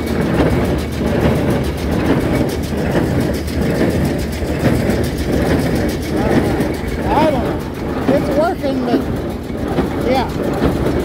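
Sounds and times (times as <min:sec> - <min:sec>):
baler rhythmic clatter: 0:00.0 - 0:11.0
tractor engine under load: 0:00.0 - 0:11.0.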